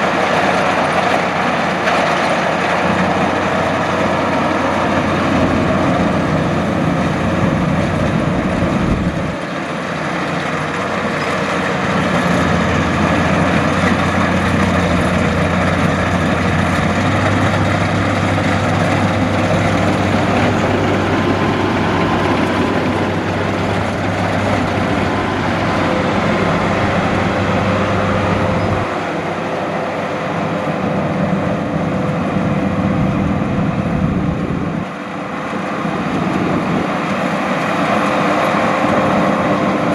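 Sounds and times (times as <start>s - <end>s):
combine harvester engine humming: 0.0s - 39.9s
harvesting machinery noise: 0.0s - 39.9s.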